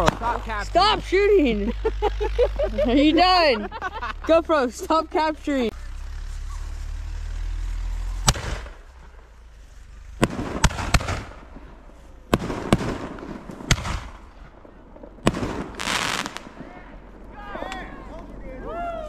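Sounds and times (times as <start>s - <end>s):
fireworks bangs: 0.0s - 18.7s
low rumble: 0.0s - 19.0s.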